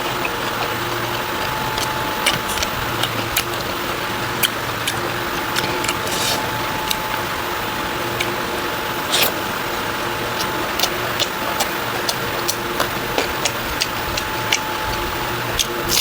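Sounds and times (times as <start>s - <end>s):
mouth clicks and crunches: 0.0s - 7.2s, 8.2s - 8.4s, 9.0s - 16.0s
steady low hum: 0.0s - 16.0s.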